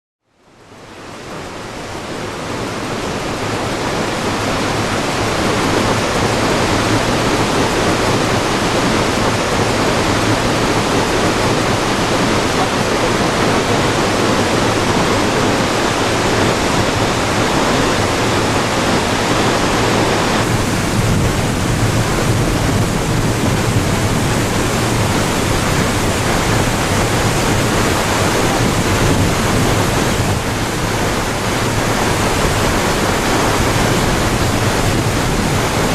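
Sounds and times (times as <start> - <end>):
waterfall rush: 0.4 - 35.9.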